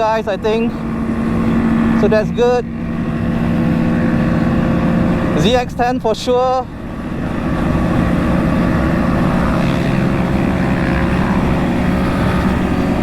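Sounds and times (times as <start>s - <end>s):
motorcycle engine cruising: 0.0s - 13.0s
wind rush: 0.0s - 13.0s.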